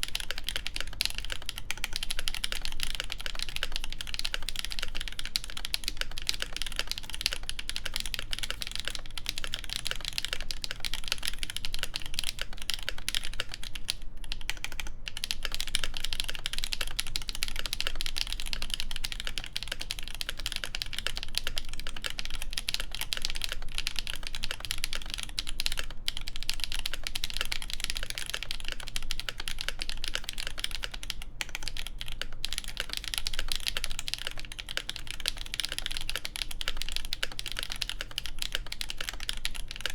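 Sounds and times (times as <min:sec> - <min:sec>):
rapid typing on mechanical keyboard: 0:00.0 - 0:39.9.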